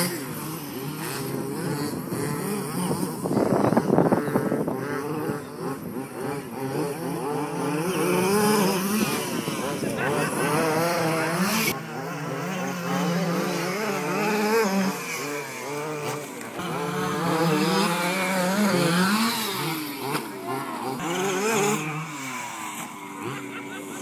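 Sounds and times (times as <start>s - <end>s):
small two-stroke engines revving: 0.0s - 24.0s.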